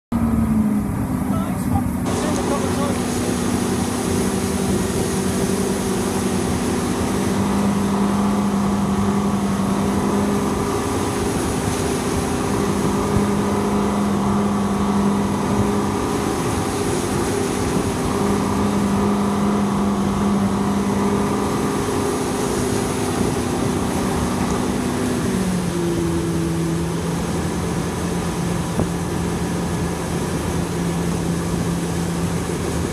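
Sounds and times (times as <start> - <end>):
motorboat engine running: 0.1 - 32.9.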